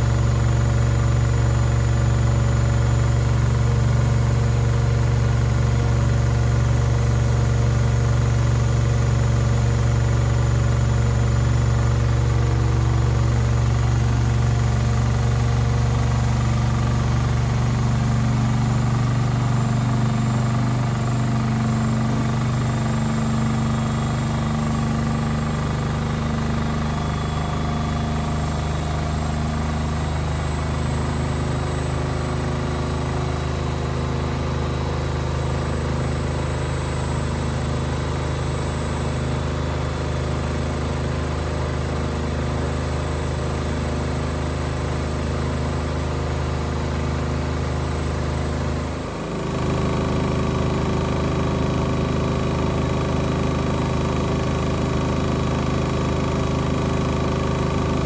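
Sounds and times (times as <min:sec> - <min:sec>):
washing machine spinning: 0:00.0 - 0:43.9, 0:44.6 - 0:58.0.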